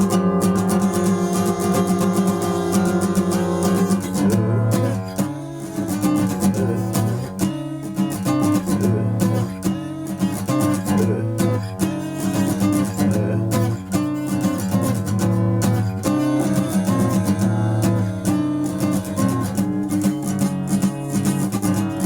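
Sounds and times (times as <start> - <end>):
guitar strumming punk chords: 0.0 - 22.0.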